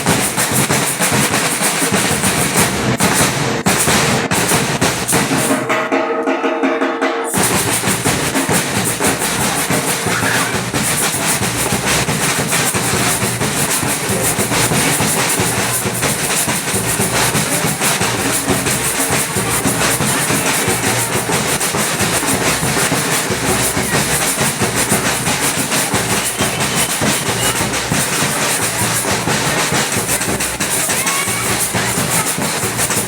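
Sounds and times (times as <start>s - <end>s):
samba drum ensemble: 0.0s - 33.0s.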